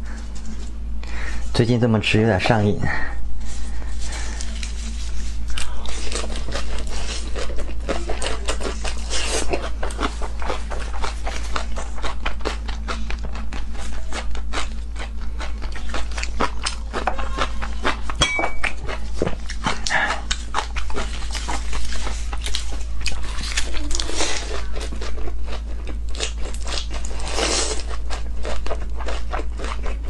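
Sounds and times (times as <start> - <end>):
steady low hum: 0.0 - 30.0
lettuce crunching while chewing: 4.2 - 30.0.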